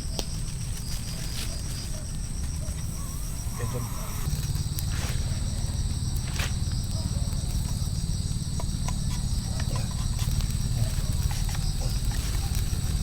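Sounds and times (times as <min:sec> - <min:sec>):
constant low rumble: 0:00.0 - 0:13.0
insects chirring: 0:00.0 - 0:13.0.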